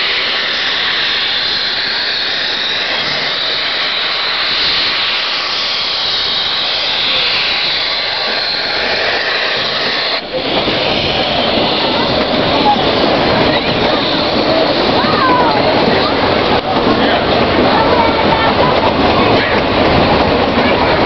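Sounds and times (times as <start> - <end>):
steam train rushing noise: 0.0 - 21.0.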